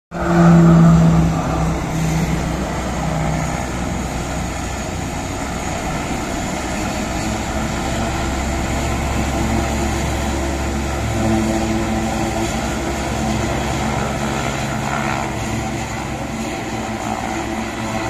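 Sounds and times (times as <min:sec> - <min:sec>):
low engine rumble: 0:00.1 - 0:18.0
turboprop engines humming: 0:00.1 - 0:18.0.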